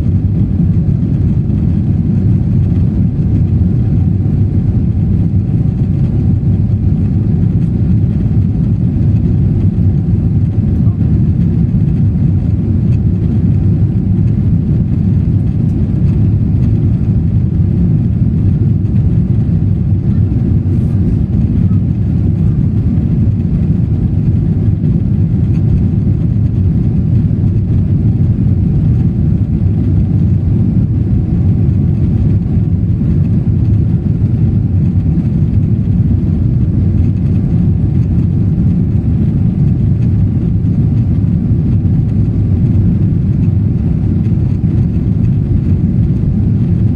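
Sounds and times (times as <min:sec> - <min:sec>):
airplane engines rumbling: 0:00.0 - 0:46.9.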